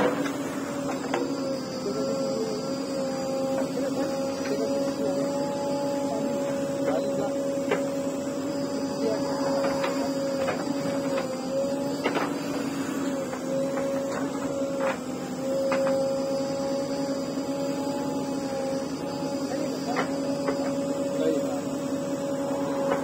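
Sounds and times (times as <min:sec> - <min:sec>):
backhoe loader running: 0:00.0 - 0:23.0.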